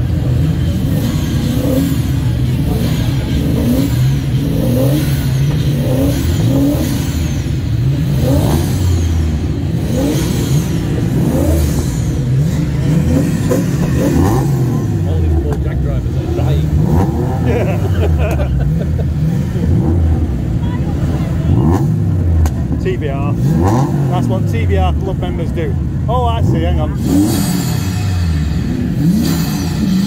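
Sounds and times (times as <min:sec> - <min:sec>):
sports car engine revving: 0:00.0 - 0:30.0.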